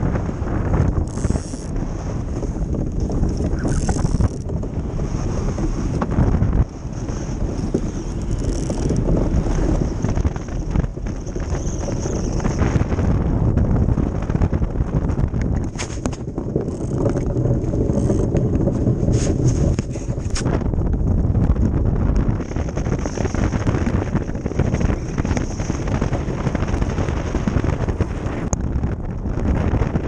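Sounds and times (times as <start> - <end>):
hull and rigging rattling: 0.0 - 30.0
ice boat runners gliding on ice: 0.0 - 30.0
wind buffeting microphone: 0.0 - 30.0.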